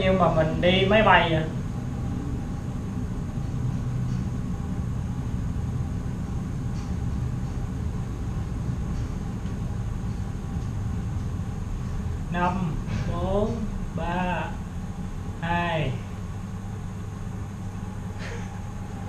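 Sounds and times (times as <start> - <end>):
elevator descending low rumble: 0.0 - 19.0.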